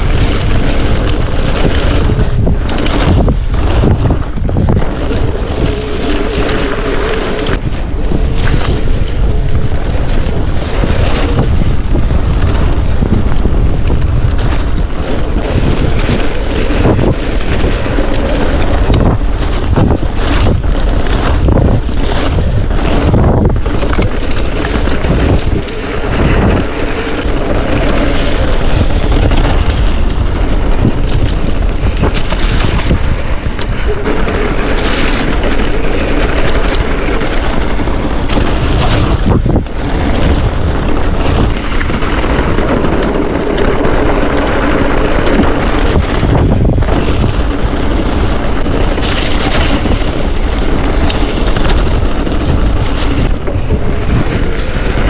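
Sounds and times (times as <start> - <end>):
bike knocks and rattles: 0.0 - 55.0
tyre and trail noise: 0.0 - 55.0
wind buffeting microphone: 0.0 - 55.0.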